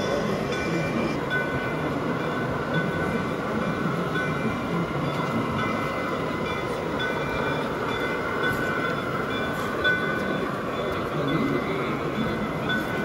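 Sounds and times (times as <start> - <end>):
dense background noise: 0.0 - 13.0
model steam train sound: 0.0 - 13.0.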